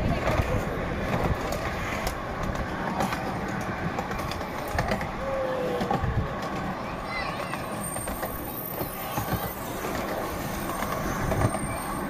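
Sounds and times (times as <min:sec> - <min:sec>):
miniature train wheels rumbling: 0:00.0 - 0:12.0
track clicks and clacks: 0:00.0 - 0:12.0.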